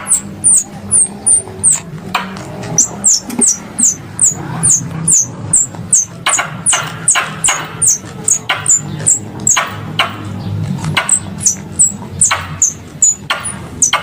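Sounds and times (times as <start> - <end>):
squirrel lure call chirps: 0.0 - 1.9, 2.7 - 10.2, 11.0 - 14.0.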